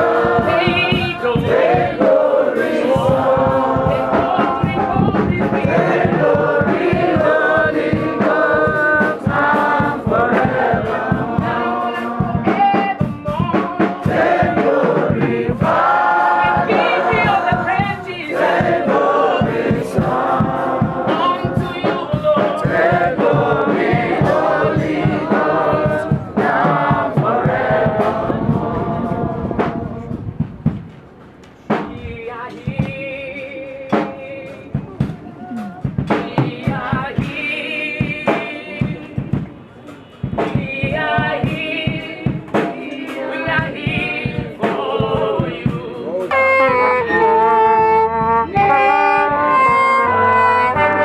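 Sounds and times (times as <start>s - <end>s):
group of voices singing: 0.0s - 30.4s, 31.7s - 51.0s
steady drum beat: 0.0s - 51.0s.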